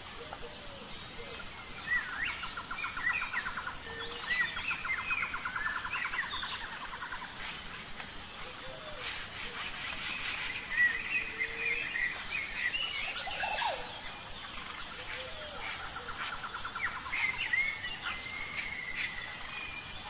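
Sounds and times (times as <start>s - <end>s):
high insect trill: 0.0s - 20.0s.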